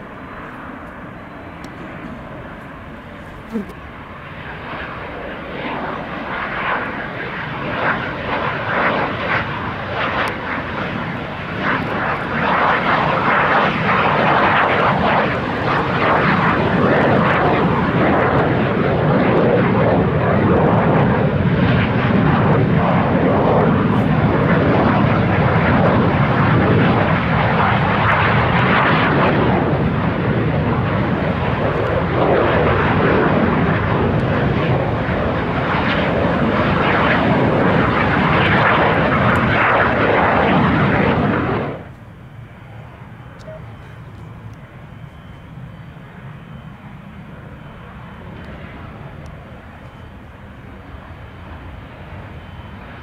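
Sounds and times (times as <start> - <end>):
jet aircraft taking off: 0.0 - 53.0.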